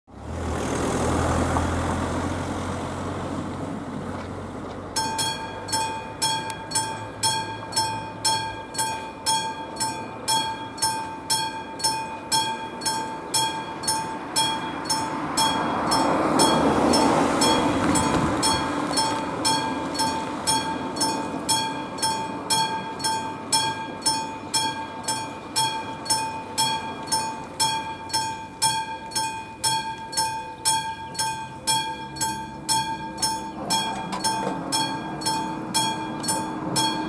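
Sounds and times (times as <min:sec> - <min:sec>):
level crossing bell ringing: 0:05.0 - 0:37.0.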